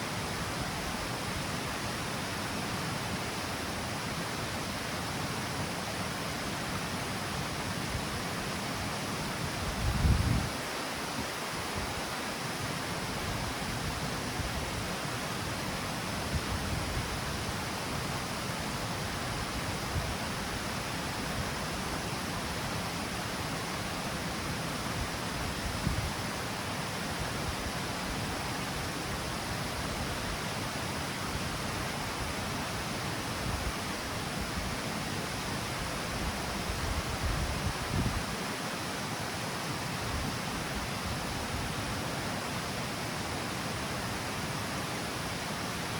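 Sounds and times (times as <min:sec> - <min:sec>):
water rushing down cascade: 0:00.0 - 0:45.9.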